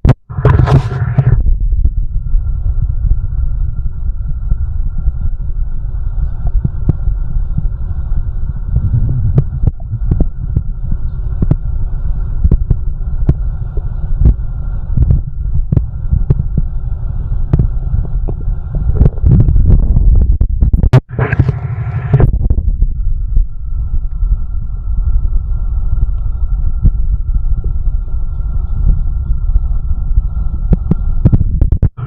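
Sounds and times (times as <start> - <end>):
heartbeat thuds: 0.0 - 32.0
steady hum: 0.0 - 32.0.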